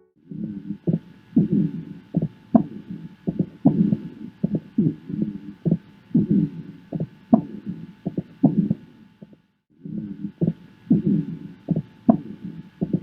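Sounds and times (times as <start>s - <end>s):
breath sounds through stethoscope: 0.3s - 13.0s
heartbeat thumps: 0.3s - 13.0s.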